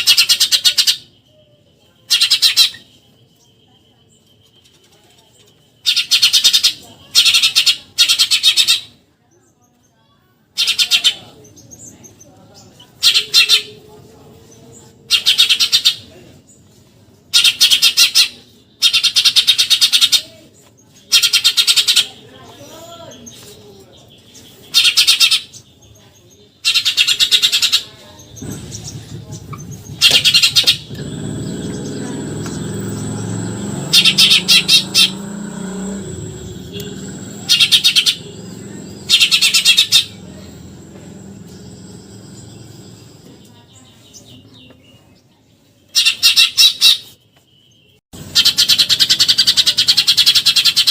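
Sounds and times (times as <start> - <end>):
sparrow shrill chatter: 0.0 - 50.9.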